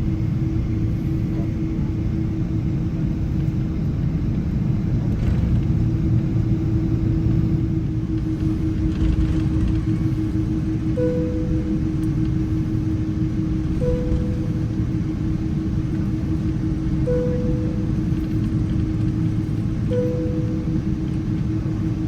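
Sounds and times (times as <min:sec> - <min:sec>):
aircraft cabin rumble: 0:00.0 - 0:22.0
jet engines droning hum: 0:00.0 - 0:22.0.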